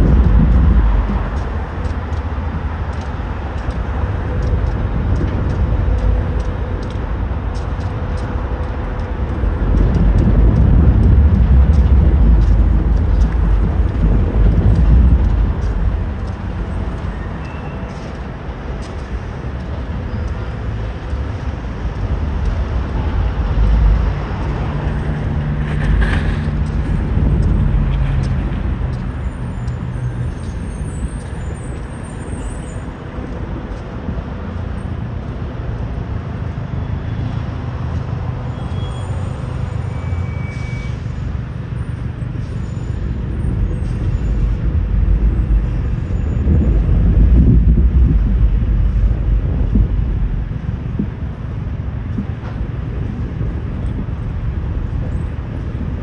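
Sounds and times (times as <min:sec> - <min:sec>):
heavy vehicle engine rumble: 0:00.0 - 0:56.0.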